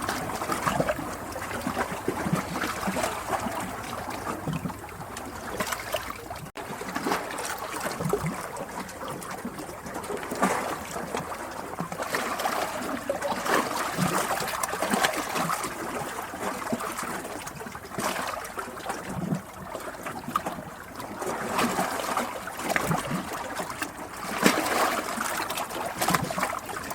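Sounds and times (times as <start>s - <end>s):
water trickling and splashing: 0.0s - 26.9s.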